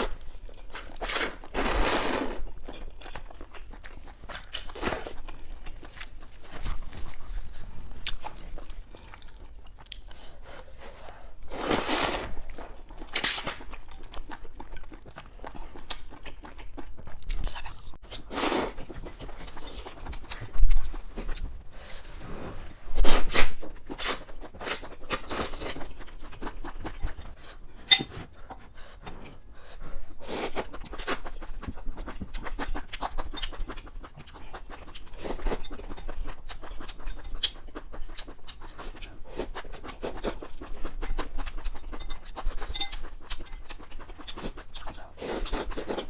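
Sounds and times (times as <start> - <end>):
person chewing: 0.0 - 21.5, 23.0 - 46.0.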